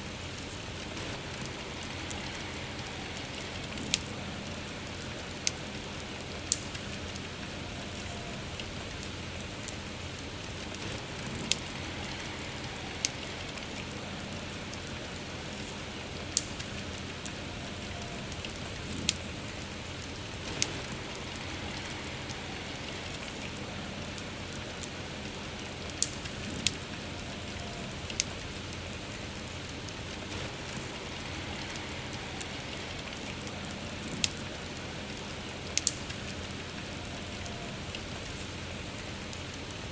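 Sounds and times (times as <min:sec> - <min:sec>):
campfire crackling and popping: 0:00.0 - 0:39.9
steady rain falling: 0:00.0 - 0:39.9.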